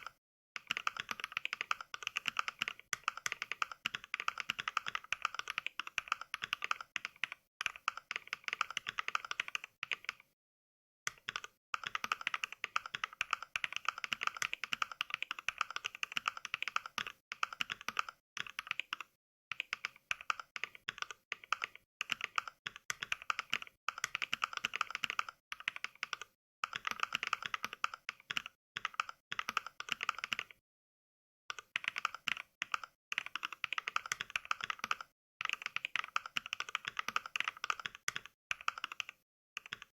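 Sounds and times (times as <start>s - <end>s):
keyboard typing clacks: 0.0s - 10.3s, 11.1s - 30.6s, 31.5s - 39.9s.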